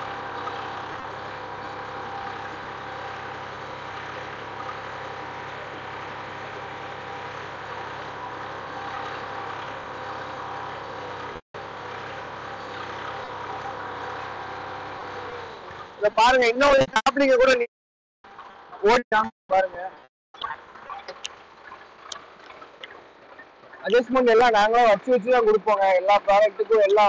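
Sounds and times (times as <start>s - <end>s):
tractor engine under load: 0.0s - 17.6s, 20.4s - 27.0s.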